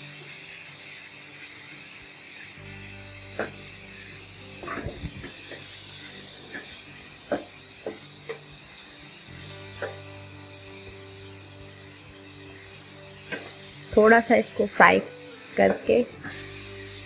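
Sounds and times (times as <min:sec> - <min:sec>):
meat sizzling in a wok: 0:00.0 - 0:17.0.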